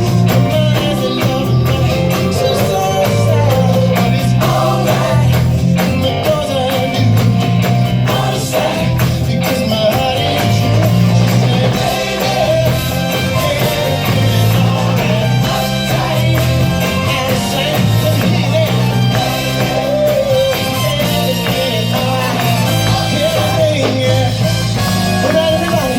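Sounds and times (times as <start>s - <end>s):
live band with lead singing: 0.0s - 25.9s.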